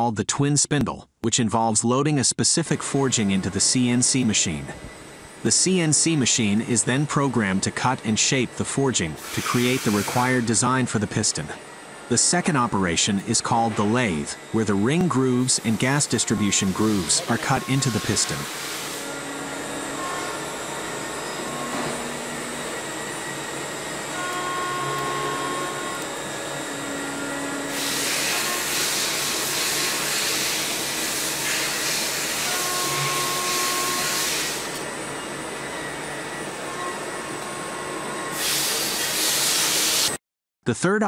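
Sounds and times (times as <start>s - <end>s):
mechanical hum and hiss: 2.4s - 40.2s.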